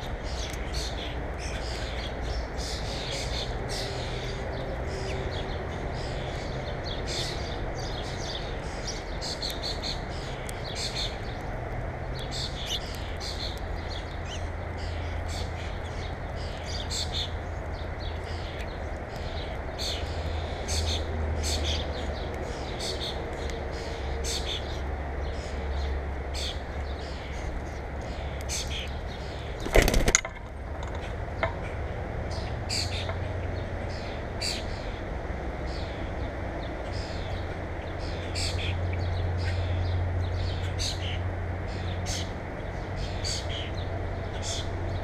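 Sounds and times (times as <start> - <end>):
small songbirds chirping: 0.0 - 45.0.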